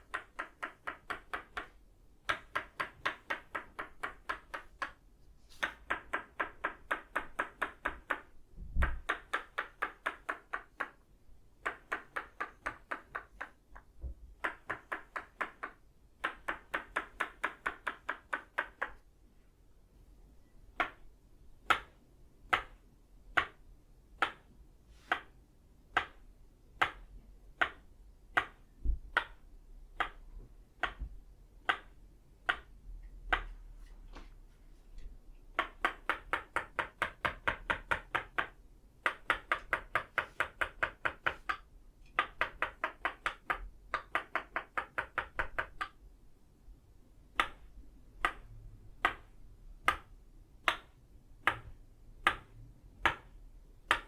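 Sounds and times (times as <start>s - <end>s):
wooden mallet tapping wooden peg: 0.0s - 5.0s, 5.6s - 11.0s, 11.6s - 19.0s, 20.7s - 23.6s, 24.2s - 33.7s, 35.5s - 46.0s, 47.3s - 54.0s.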